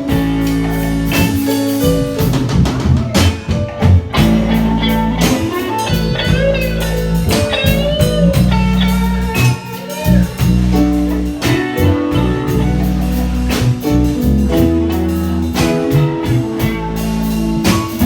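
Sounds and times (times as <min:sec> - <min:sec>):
drum kit: 0:00.0 - 0:18.0
guitar: 0:00.0 - 0:18.0
steady bass line: 0:00.0 - 0:18.0.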